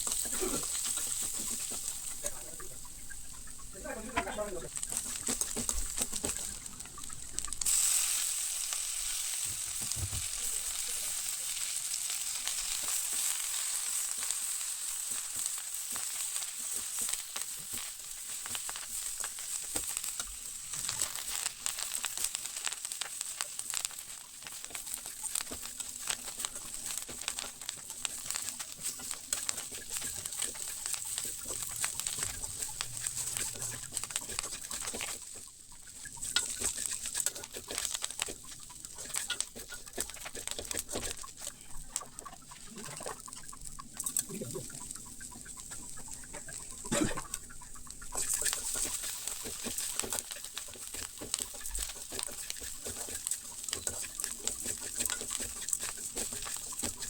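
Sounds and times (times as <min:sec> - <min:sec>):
food sizzling in hot oil: 0:00.0 - 0:57.0
oil crackling: 0:00.0 - 0:57.0.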